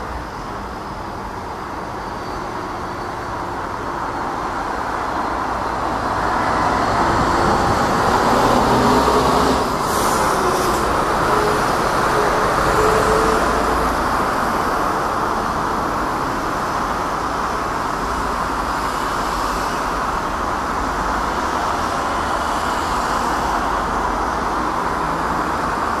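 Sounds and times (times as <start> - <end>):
jet airliner engines roaring: 0.0 - 26.0.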